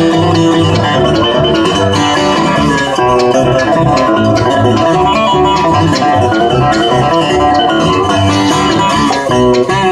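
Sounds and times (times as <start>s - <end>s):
bluegrass band playing: 0.0s - 9.9s.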